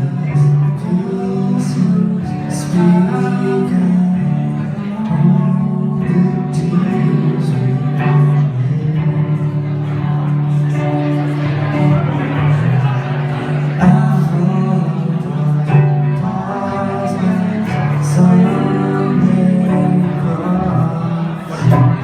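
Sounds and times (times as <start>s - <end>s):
guitar accompaniment: 0.0s - 22.0s
man singing long notes: 0.0s - 22.0s.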